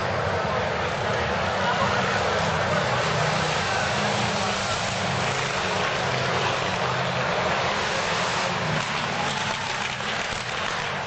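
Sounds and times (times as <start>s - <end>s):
even rushing noise: 0.0s - 11.0s
motorcycle engines running: 0.0s - 11.0s.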